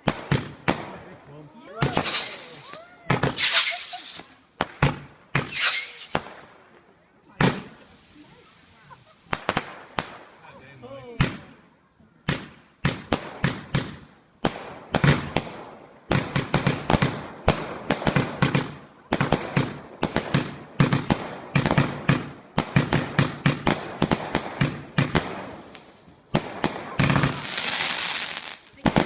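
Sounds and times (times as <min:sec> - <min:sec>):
firework bangs in rapid volleys: 0:00.0 - 0:08.1, 0:09.0 - 0:11.6, 0:12.2 - 0:29.0.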